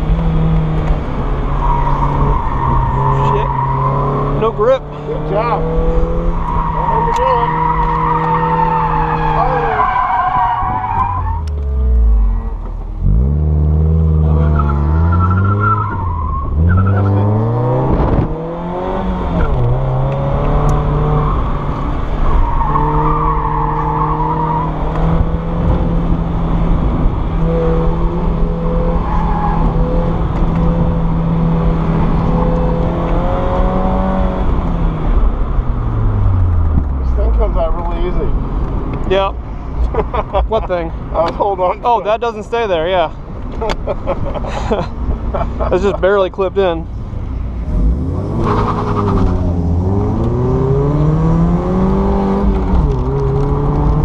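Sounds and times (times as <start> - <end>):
car engine revving: 0.0 - 43.9, 44.8 - 54.0.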